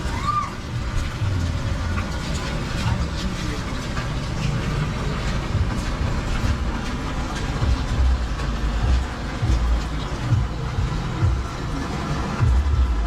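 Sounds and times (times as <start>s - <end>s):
low rumble: 0.0s - 13.0s
steady rain falling: 0.0s - 13.0s.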